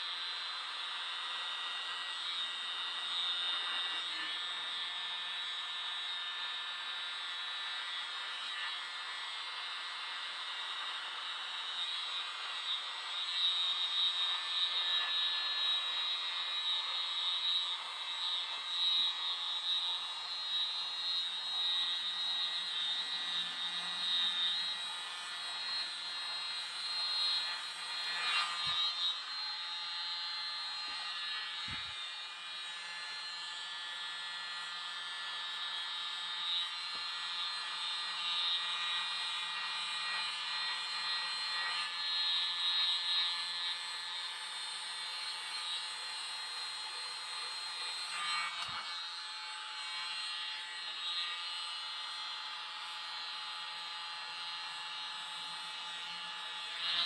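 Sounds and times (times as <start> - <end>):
mini blower motor whine: 0.0 - 57.0.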